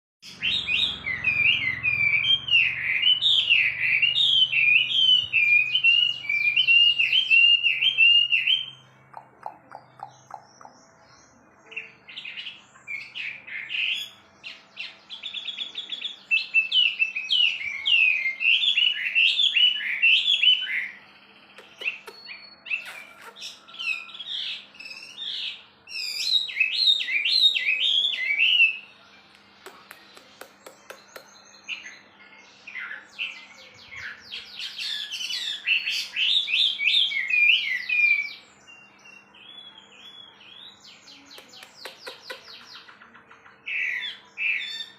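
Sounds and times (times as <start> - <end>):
faint bird chirps: 0.2 - 44.9
bird singing whistled phrases: 0.3 - 11.1, 11.7 - 21.0, 21.6 - 28.9, 32.6 - 42.9.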